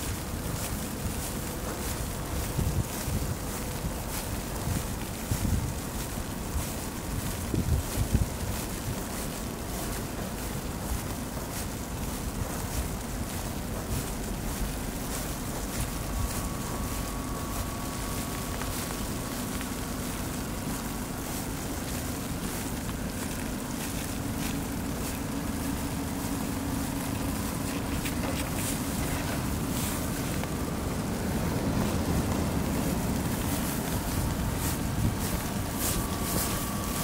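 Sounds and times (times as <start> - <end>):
soft hiss: 0.0 - 37.0
traffic rumble: 0.0 - 37.0.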